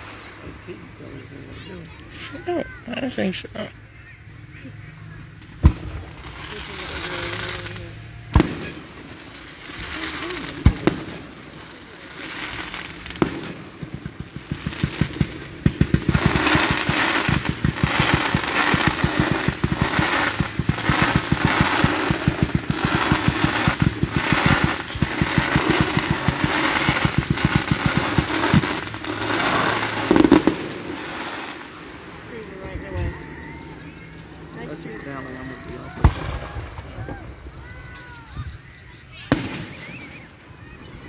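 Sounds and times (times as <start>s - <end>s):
crackling hiss: 0.0s - 41.0s
fireworks crackling and popping: 0.0s - 41.0s
heavy firework bang: 5.5s - 41.0s.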